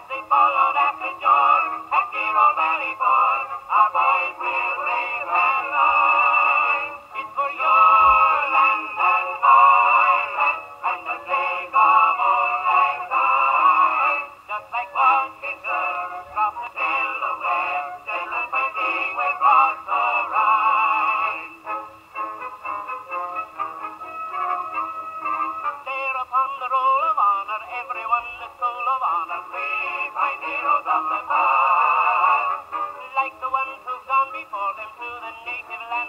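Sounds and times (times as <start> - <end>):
old phonograph music with singing: 0.0 - 36.0.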